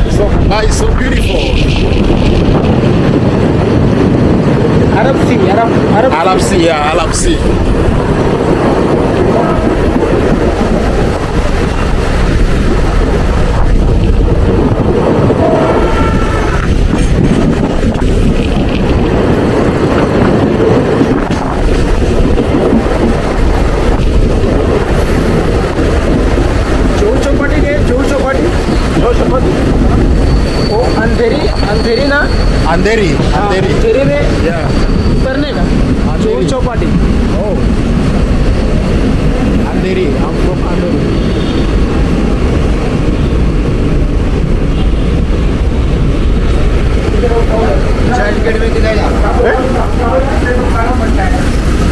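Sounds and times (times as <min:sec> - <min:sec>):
train rumbling at speed: 0:00.0 - 0:51.9.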